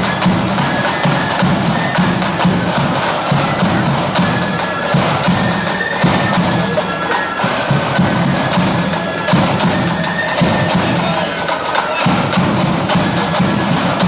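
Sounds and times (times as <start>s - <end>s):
flute melody: 0.0s - 14.0s
pounding bass drum: 0.0s - 14.0s
snare drums: 0.0s - 14.0s.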